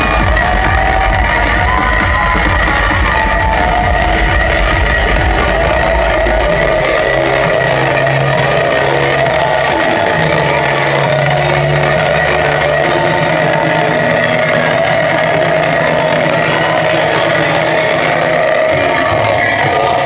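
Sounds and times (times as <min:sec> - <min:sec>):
droning synth dance music: 0:00.0 - 0:20.0.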